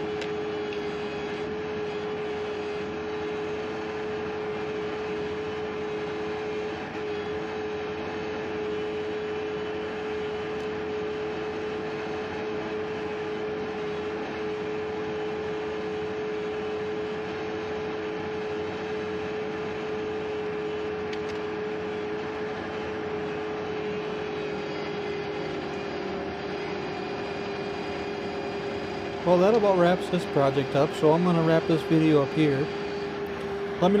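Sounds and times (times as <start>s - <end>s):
skid steer engine running: 0.0s - 34.0s.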